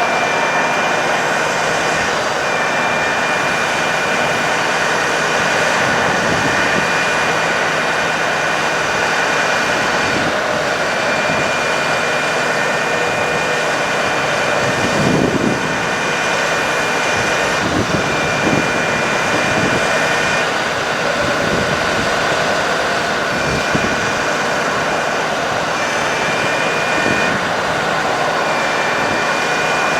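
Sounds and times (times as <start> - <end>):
hydraulic system whine: 0.0 - 29.9
truck engine running: 0.0 - 29.9.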